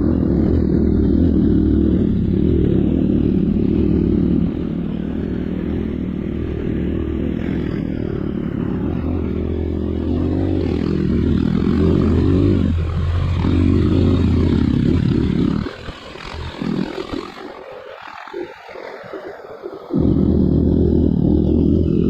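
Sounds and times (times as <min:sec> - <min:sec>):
motorcycle engine revving: 0:00.0 - 0:18.2, 0:19.9 - 0:22.0.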